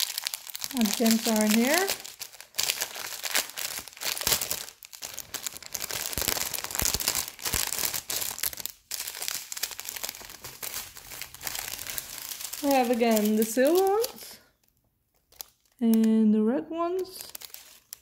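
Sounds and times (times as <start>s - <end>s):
plastic packets crinkling: 0.0s - 16.1s, 16.9s - 18.0s.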